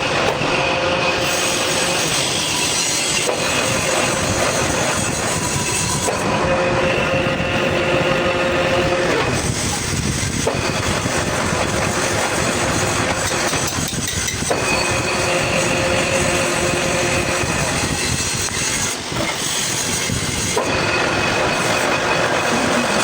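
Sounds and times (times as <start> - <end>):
workshop machinery running: 0.0 - 23.0.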